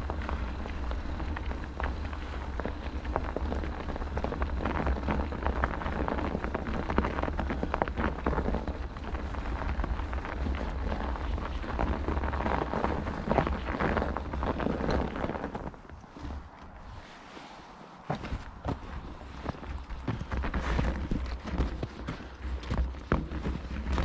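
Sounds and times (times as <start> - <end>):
bicycle tyres on gritty snow: 0.0 - 24.0
wind rumbling on microphone: 0.0 - 24.0.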